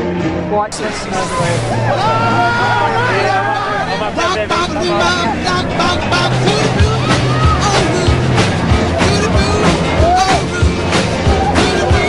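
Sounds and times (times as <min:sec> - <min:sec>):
held bass notes: 0:00.5 - 0:12.0
person singing: 0:00.8 - 0:08.2, 0:09.0 - 0:12.0.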